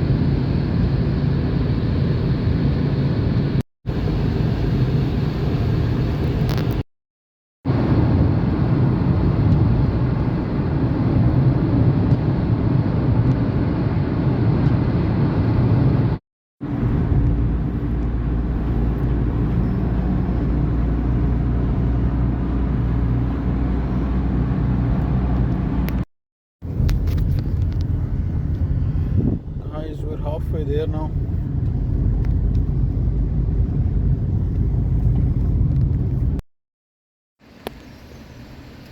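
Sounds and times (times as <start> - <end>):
car driving with engine drone: 0.0 - 6.8, 7.7 - 36.4, 37.4 - 38.9.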